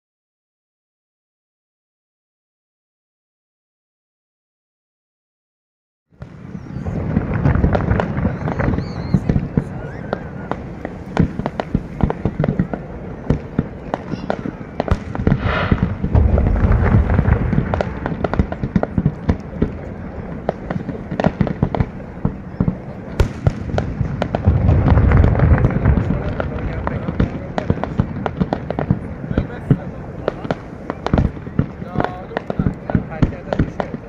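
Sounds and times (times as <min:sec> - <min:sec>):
deep firework bursts: 0:06.1 - 0:34.0
fireworks popping and crackling: 0:06.2 - 0:34.0.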